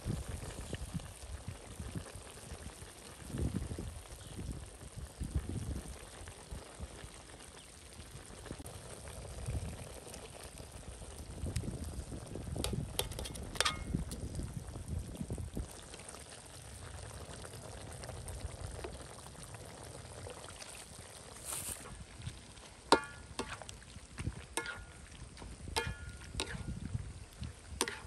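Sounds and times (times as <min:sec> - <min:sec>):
pork sizzling in a wok: 0:00.0 - 0:28.0.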